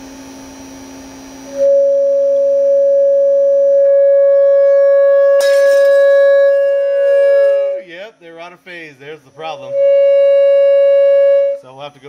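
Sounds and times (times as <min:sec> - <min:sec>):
loud steady pure tone: 0:00.0 - 0:12.0
low electrical hum: 0:00.0 - 0:12.0.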